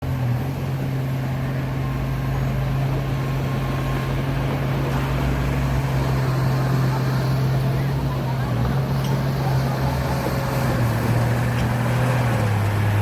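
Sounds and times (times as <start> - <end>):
heavy machinery diesel engine hum: 0.0 - 13.0.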